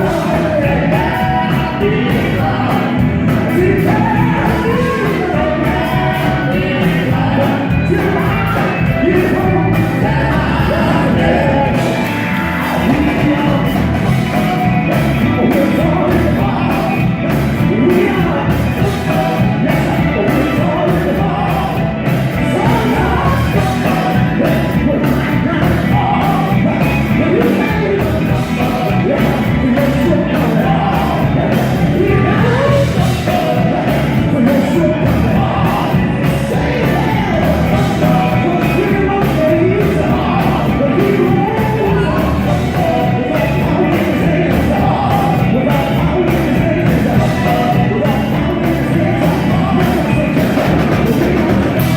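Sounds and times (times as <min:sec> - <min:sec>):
band with steady beat: 0:00.0 - 0:51.9
gospel quartet singing: 0:00.0 - 0:51.9.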